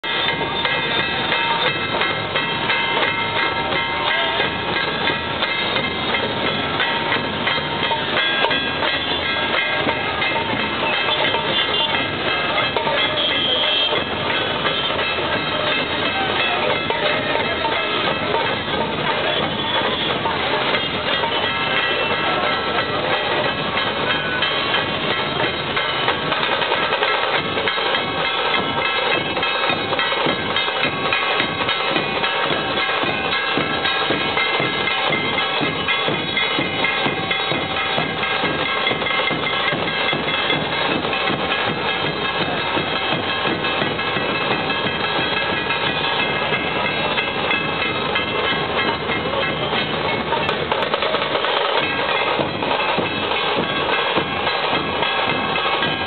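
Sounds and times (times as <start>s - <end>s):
drums in fast driving rhythm: 0.0s - 56.0s
ringing metallic tones: 0.0s - 56.0s.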